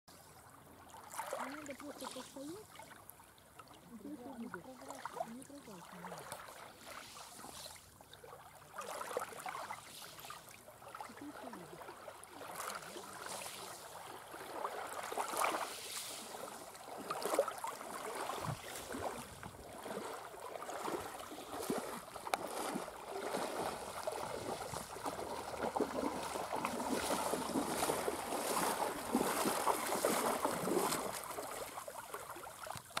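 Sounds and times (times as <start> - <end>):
small waves lapping: 0.1 - 33.0
water splashing around wading legs: 0.9 - 33.0.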